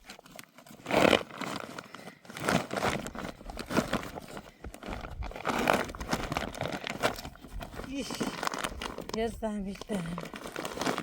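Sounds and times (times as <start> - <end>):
dry stems rustling and snapping: 0.0 - 11.0.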